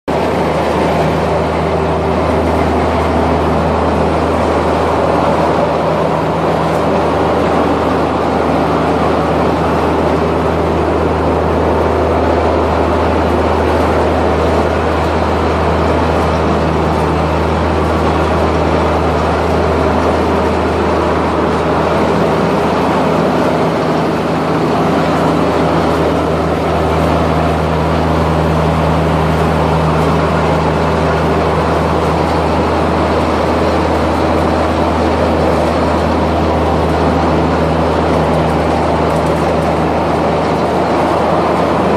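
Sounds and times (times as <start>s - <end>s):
grinding machine running: 0.1s - 41.9s.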